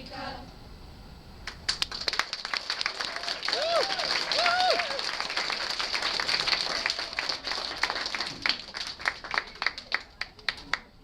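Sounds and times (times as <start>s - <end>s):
audience applauding: 1.7s - 10.9s.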